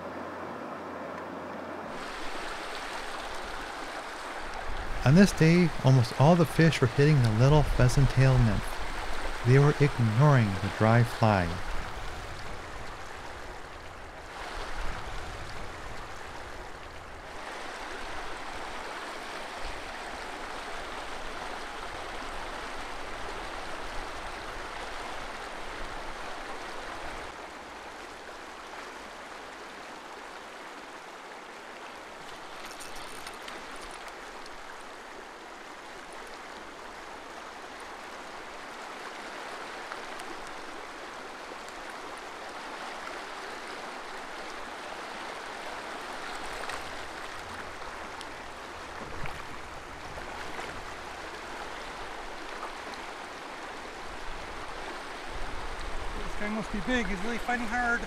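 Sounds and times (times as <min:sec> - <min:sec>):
creek water rushing: 0:00.0 - 0:58.0.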